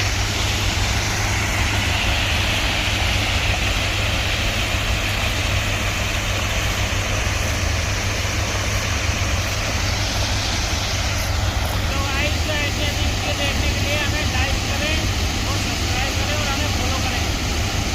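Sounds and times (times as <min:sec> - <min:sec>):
heavy machine engine running: 0:00.0 - 0:17.9.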